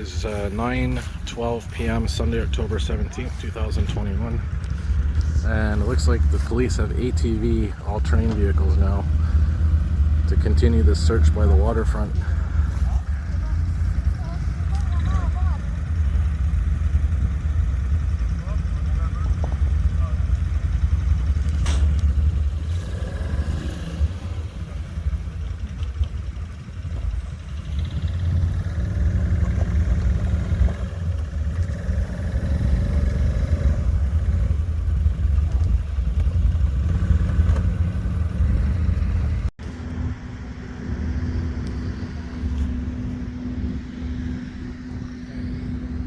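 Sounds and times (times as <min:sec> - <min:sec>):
motor vehicle engines rumbling: 0:00.0 - 0:46.0
steady low hum: 0:00.0 - 0:46.0.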